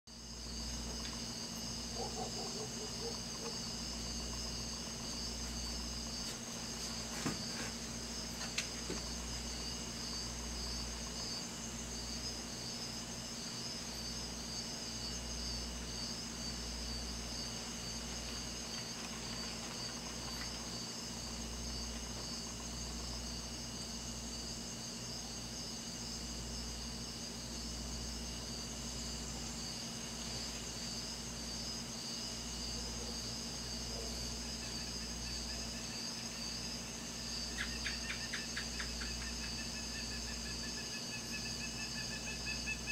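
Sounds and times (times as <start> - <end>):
insects trilling: 0.1 - 42.9.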